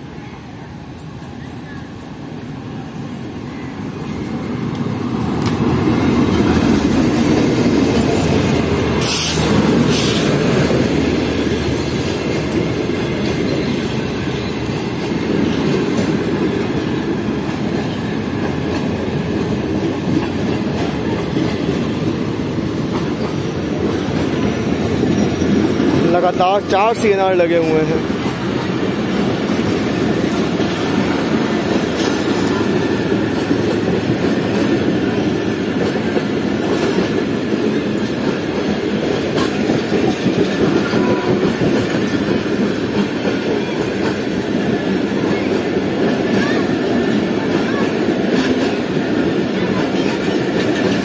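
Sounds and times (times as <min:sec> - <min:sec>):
train rumbling past: 0:00.0 - 0:51.0.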